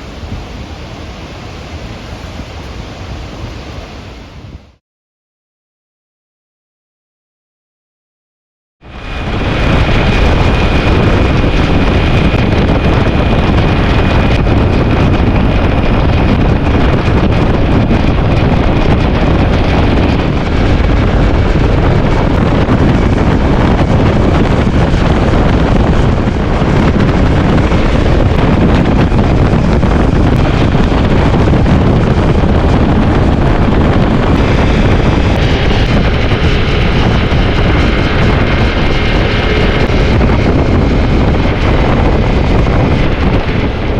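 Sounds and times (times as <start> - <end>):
strong wind buffeting microphone: 0.0 - 4.8, 8.8 - 43.9.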